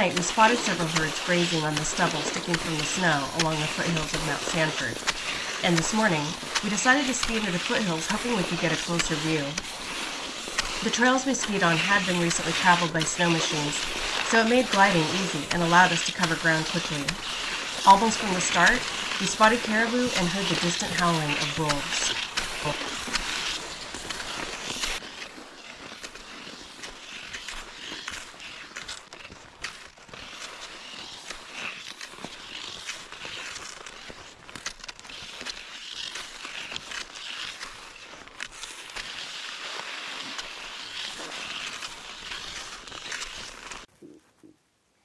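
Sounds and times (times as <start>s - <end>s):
skis gliding over snow: 0.0s - 44.2s.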